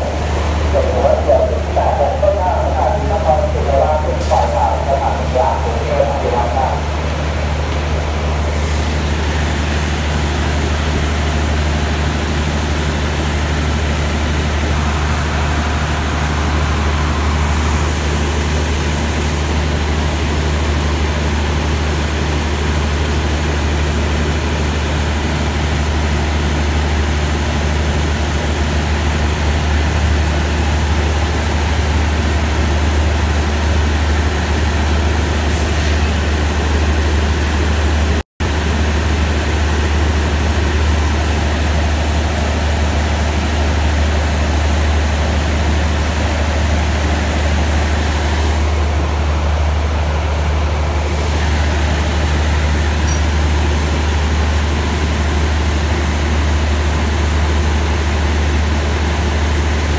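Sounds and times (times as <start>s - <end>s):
diesel train engine humming: 0.0s - 59.9s.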